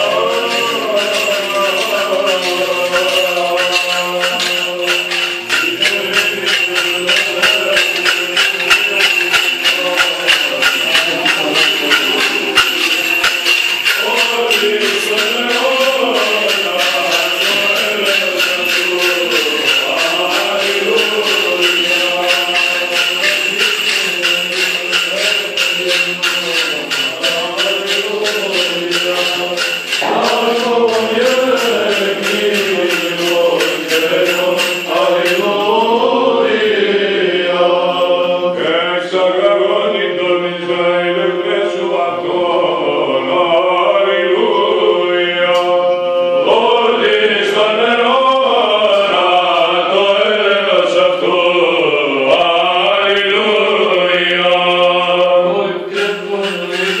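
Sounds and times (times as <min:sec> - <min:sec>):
censer bells jingling: 0:00.0 - 0:39.8, 0:42.3 - 0:57.0
voices chanting: 0:00.0 - 0:57.0.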